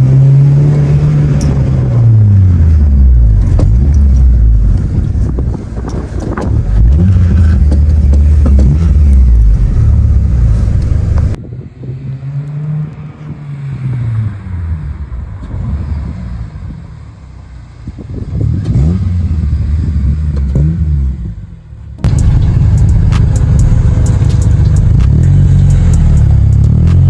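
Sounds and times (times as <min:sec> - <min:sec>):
car exhaust rumble: 0:00.0 - 0:11.4, 0:14.4 - 0:27.0
engine revving: 0:00.0 - 0:17.2, 0:17.9 - 0:27.0.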